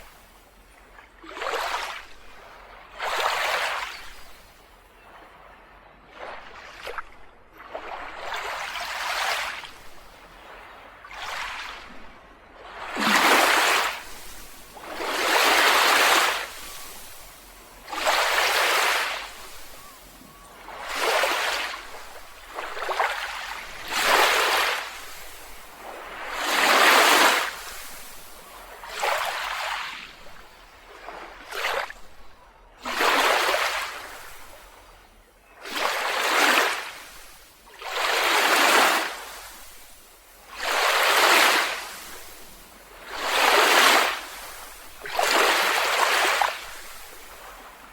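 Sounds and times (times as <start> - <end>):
small waves breaking on beach: 0.0 - 47.9.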